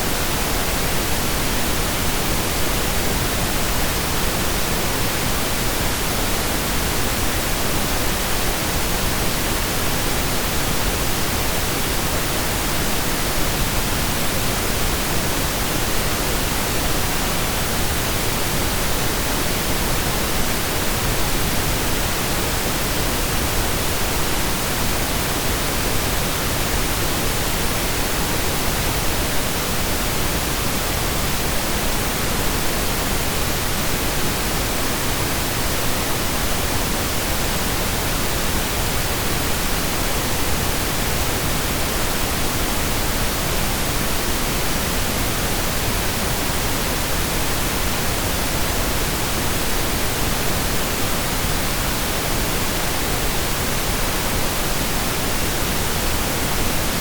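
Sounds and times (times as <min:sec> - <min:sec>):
synthesized pink noise hiss: 0:00.0 - 0:57.0.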